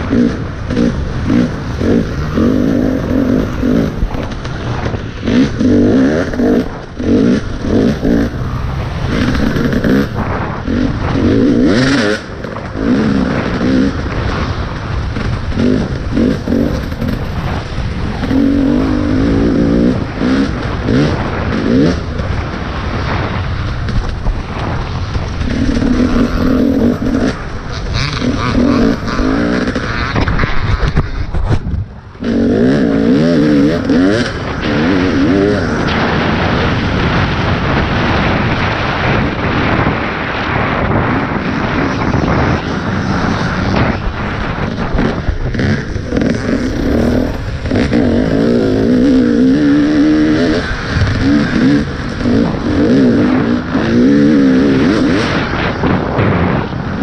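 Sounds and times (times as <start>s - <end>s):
off-road motorcycle engine revving: 0.0s - 57.0s
wind noise: 0.0s - 57.0s.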